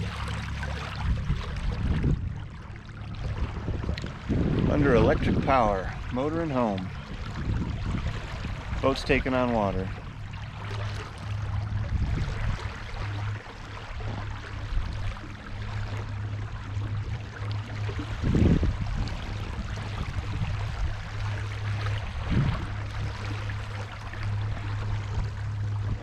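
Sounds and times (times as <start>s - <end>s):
electric boat motor humming: 0.0s - 26.0s
water rushing along hull: 0.0s - 26.0s.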